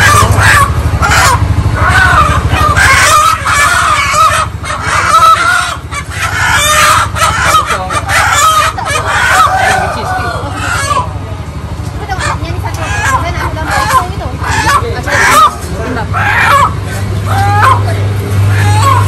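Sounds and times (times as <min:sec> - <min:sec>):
roosters crowing: 0:00.0 - 0:11.2, 0:12.1 - 0:19.0
chickens clucking: 0:00.0 - 0:19.0.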